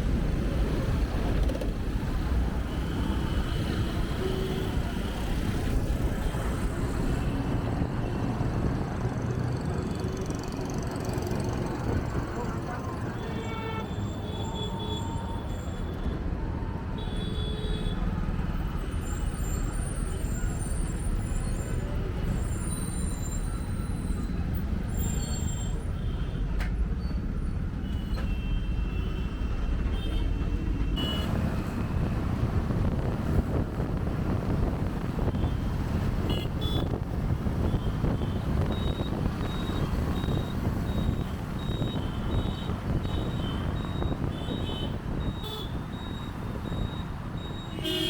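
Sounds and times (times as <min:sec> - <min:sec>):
city road traffic rumble: 0:00.0 - 0:48.0.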